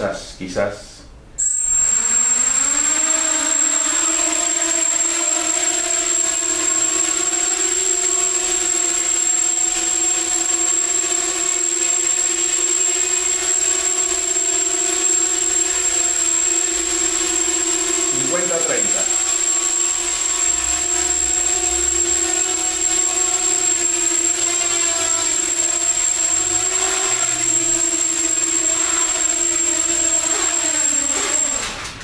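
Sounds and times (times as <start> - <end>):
thin high whine: 1.3 - 32.0
quadcopter motors buzzing: 1.4 - 32.0.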